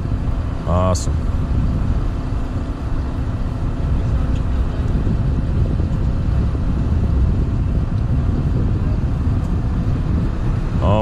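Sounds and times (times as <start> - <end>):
truck engines rumbling: 0.0 - 11.0
wind on microphone: 0.0 - 11.0.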